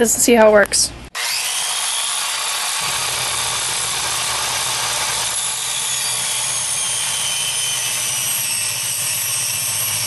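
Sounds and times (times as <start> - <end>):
circular saw cutting board: 1.2 - 10.0.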